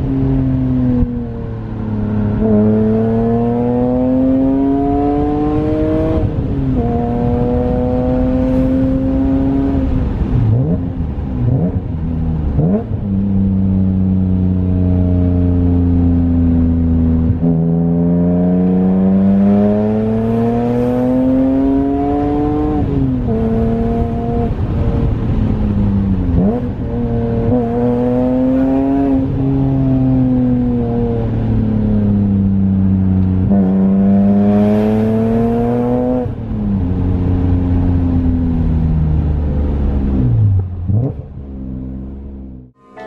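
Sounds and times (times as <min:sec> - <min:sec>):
car engine revving through gears: 0:02.0 - 0:13.7, 0:14.8 - 0:32.2, 0:33.2 - 0:38.4, 0:39.9 - 0:43.0.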